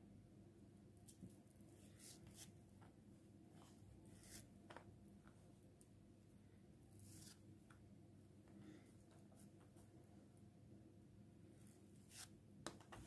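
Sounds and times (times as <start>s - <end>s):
faint steady low hum: 0.0s - 13.0s.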